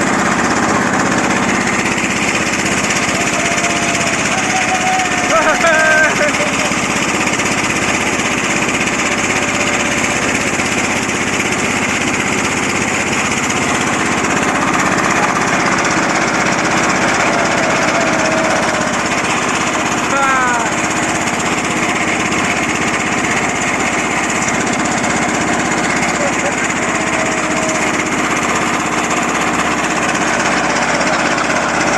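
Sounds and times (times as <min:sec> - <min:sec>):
boat engine chugging: 0:00.0 - 0:31.9.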